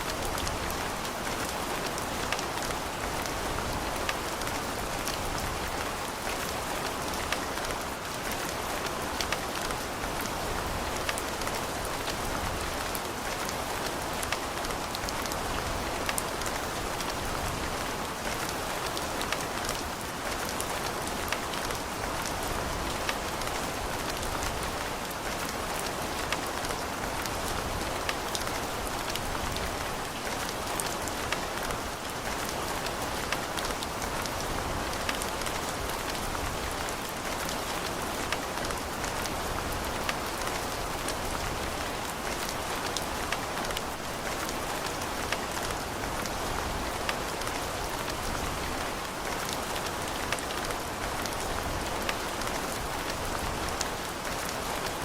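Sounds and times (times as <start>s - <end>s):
rain pattering on hard surfaces: 0.0s - 55.0s.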